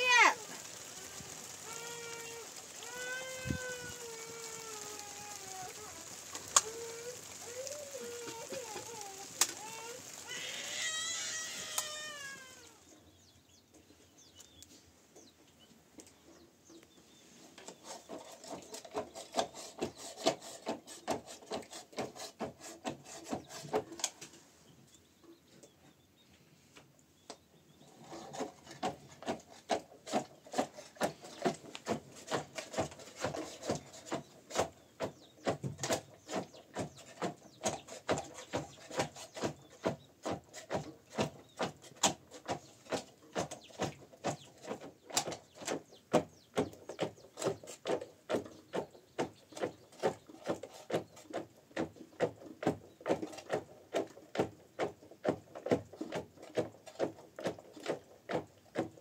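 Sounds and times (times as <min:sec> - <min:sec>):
rhythmic scraping on wood: 0:00.0 - 0:12.6, 0:17.0 - 0:24.5, 0:27.8 - 0:59.0.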